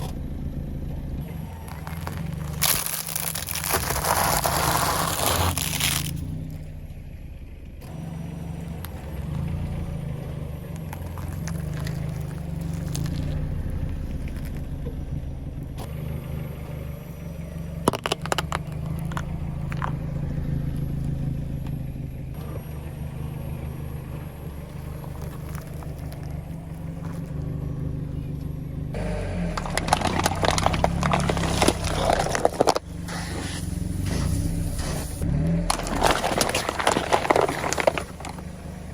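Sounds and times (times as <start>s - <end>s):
car engine running: 0.0s - 38.9s
objects crunching under tyres: 1.2s - 6.8s, 7.8s - 38.9s.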